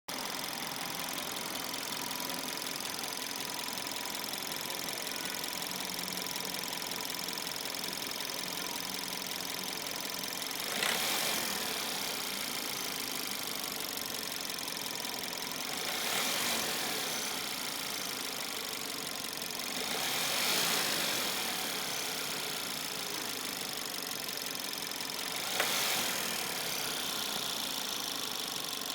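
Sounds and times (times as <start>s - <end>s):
car engine running: 0.1s - 28.9s.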